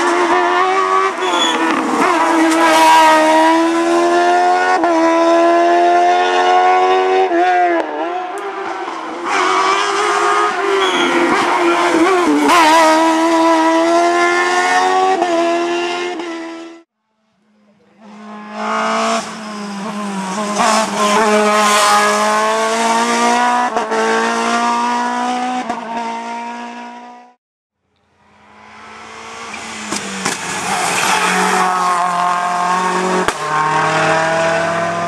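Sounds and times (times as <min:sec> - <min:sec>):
race car engine at high revs: 0:00.0 - 0:16.9, 0:17.9 - 0:27.4, 0:28.3 - 0:35.0.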